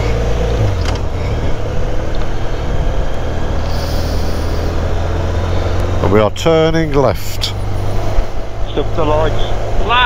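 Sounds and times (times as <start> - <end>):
motorcycle engine running: 0.0 - 8.6
road noise: 0.0 - 10.0.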